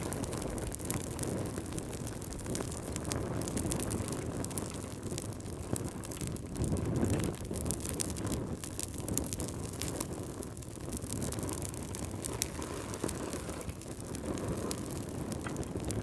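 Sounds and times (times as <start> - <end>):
fireplace fire crackling: 0.0 - 16.0
low rumble of flame: 0.0 - 16.0.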